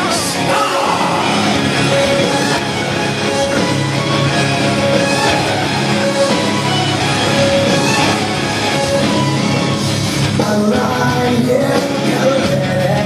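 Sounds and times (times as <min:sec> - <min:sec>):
heavy rock music: 0:00.0 - 0:13.0.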